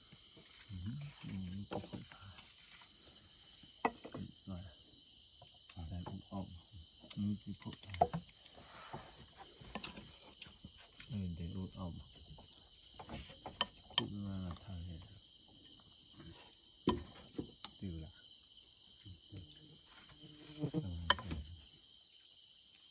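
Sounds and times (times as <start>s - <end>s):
crickets and night insects trilling: 0.0s - 22.9s.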